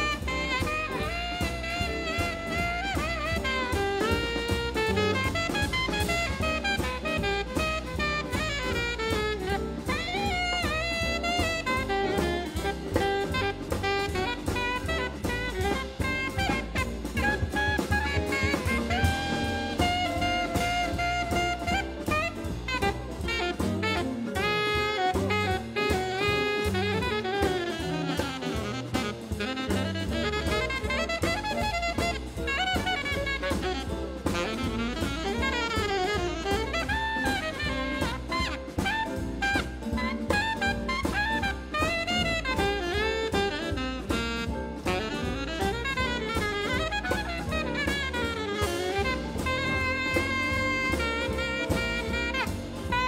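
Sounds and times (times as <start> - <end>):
alto saxophone solo: 0.0 - 53.0
bass: 0.0 - 53.0
drum kit: 0.0 - 53.0.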